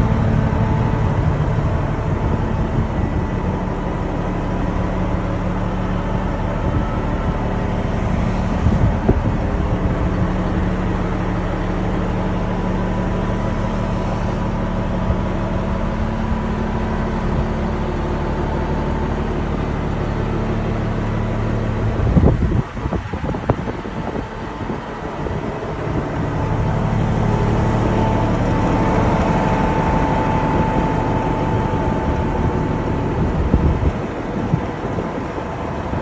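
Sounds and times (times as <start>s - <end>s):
diesel truck engine idling: 0.0s - 36.0s.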